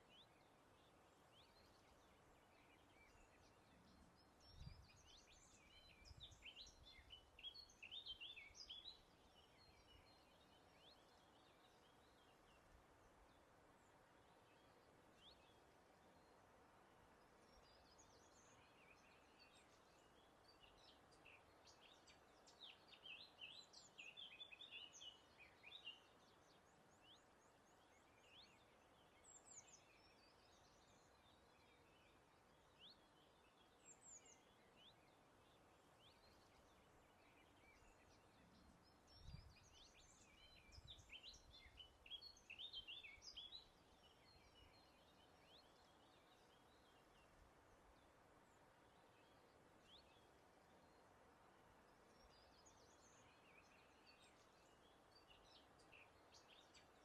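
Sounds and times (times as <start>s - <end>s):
songbirds chirping: 0.0s - 57.0s
steady background hiss: 0.0s - 57.0s.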